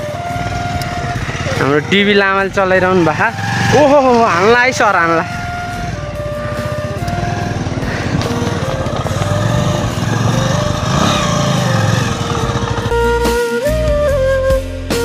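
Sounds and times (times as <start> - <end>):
flute melody: 0.0 - 1.9, 2.5 - 15.0
motorcycle engine revving: 0.0 - 13.4.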